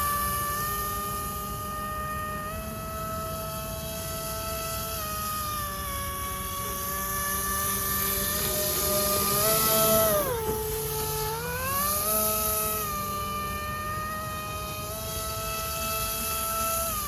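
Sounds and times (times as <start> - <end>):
electric motor propeller whine: 0.0 - 17.0.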